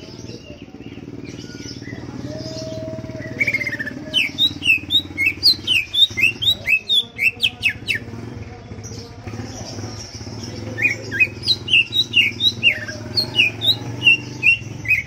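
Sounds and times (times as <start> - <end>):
bird singing trills and chirps: 0.0 - 15.0.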